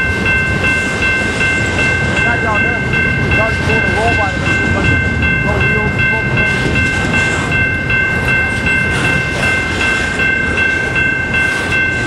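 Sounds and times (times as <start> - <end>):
train wheels rumbling and clattering: 0.0 - 12.0.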